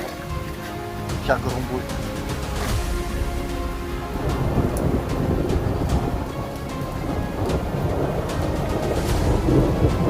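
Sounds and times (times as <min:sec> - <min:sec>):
background music: 0:00.0 - 0:10.0
thunder rumbling: 0:00.2 - 0:10.0.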